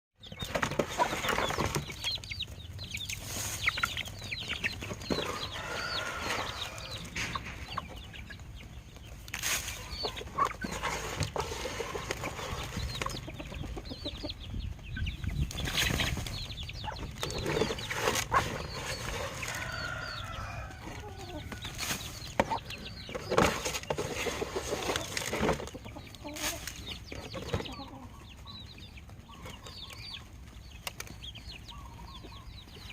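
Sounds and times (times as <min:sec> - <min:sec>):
chicks peeping: 0:00.2 - 0:32.9
hen clucking: 0:00.2 - 0:32.9.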